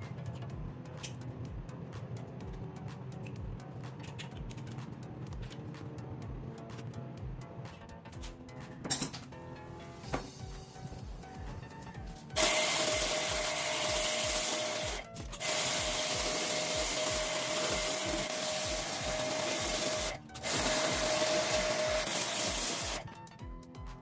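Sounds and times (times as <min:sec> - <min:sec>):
music beat: 0:00.0 - 0:24.0.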